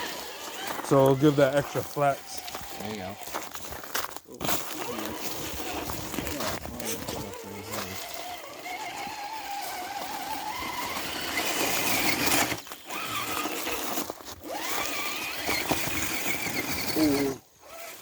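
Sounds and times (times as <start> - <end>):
electric motor and gears whining: 0.0 - 18.0.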